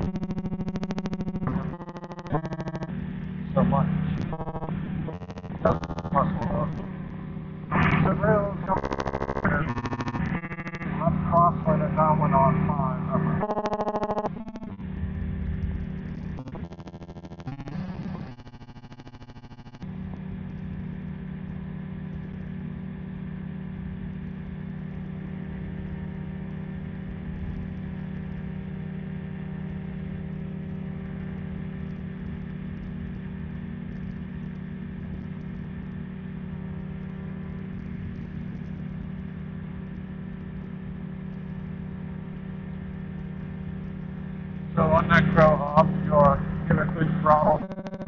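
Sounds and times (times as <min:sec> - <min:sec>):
engine and propeller drone: 0:00.0 - 0:48.0.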